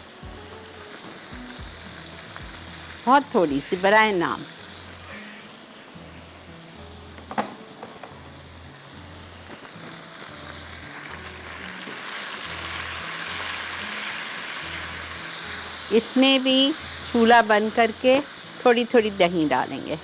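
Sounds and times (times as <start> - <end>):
soft background music with bass: 0.0 - 20.0
spices sizzling in a frying pan: 0.0 - 20.0.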